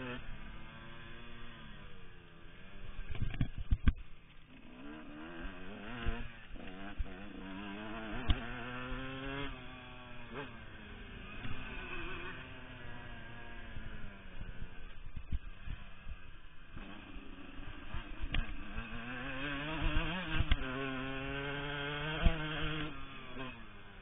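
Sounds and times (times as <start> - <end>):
two-stroke motocross bike revving: 0.0 - 24.0.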